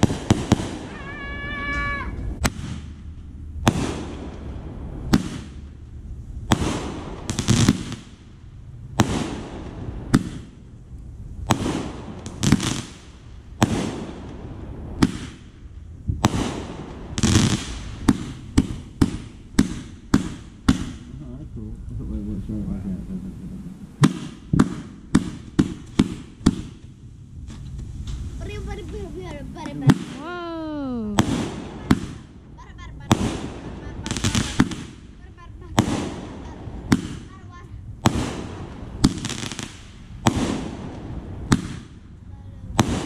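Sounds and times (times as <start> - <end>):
firework bangs: 0.0 - 21.2, 23.8 - 43.0.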